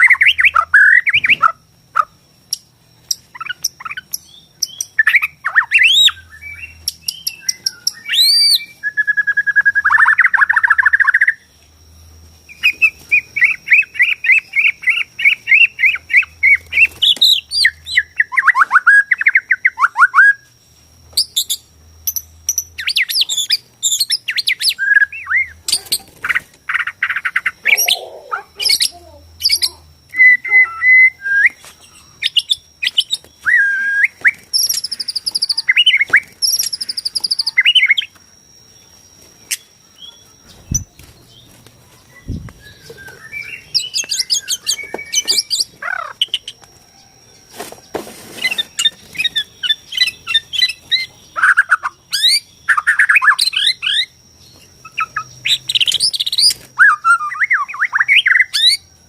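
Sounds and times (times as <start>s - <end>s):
songbird whistles and trills: 0.0s - 11.6s, 12.5s - 20.5s, 21.1s - 59.0s
faint steady high tone: 0.0s - 59.0s.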